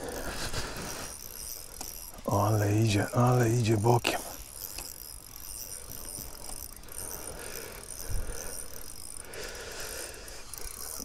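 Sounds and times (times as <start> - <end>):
fishing reel ratcheting: 0.0 - 11.0.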